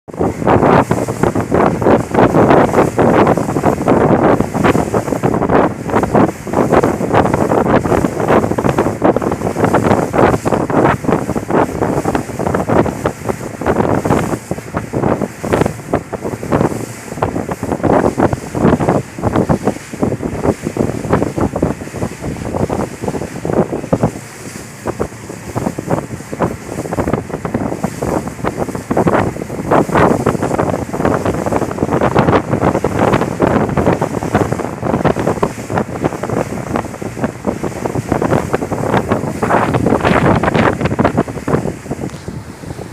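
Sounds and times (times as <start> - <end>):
wind buffeting microphone: 0.1 - 42.9.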